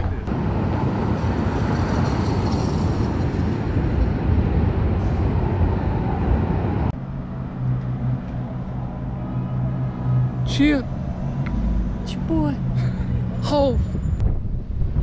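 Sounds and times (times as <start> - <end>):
road traffic noise: 0.0 - 14.2.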